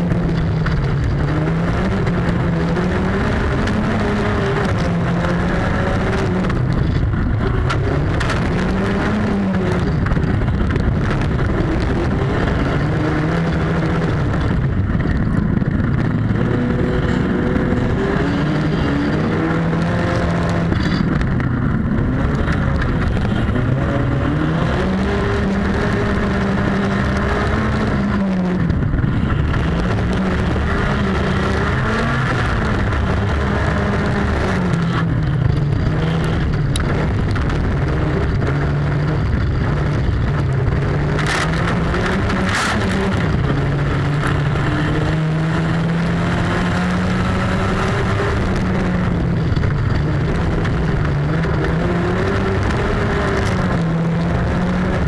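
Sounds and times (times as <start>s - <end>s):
gravel and tyre noise: 0.0s - 55.0s
race car engine revving: 0.0s - 55.0s.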